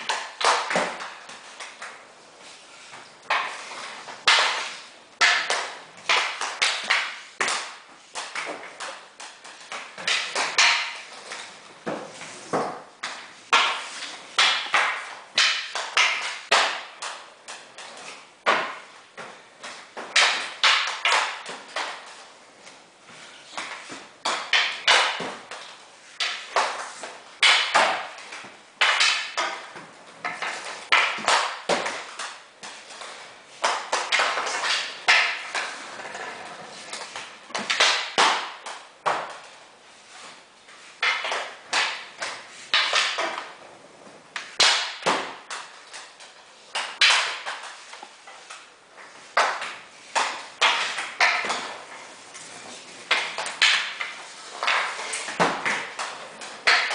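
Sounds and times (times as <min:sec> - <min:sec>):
hockey stick striking ball: 0:00.0 - 0:02.0, 0:03.3 - 0:22.2, 0:23.4 - 0:39.6, 0:41.0 - 0:43.6, 0:44.4 - 0:56.9
skate wheels rolling on tiles: 0:00.0 - 0:56.9.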